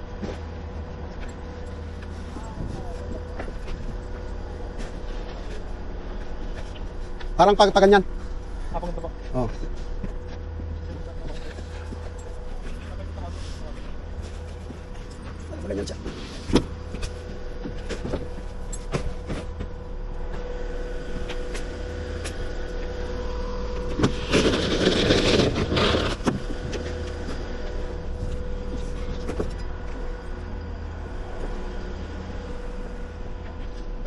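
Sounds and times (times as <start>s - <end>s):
engine running with whine: 0.0s - 34.0s.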